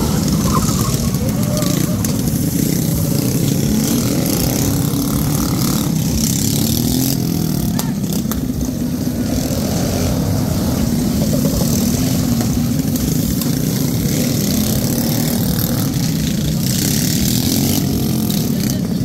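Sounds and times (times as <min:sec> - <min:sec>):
minibike engines racing: 0:00.0 - 0:19.0.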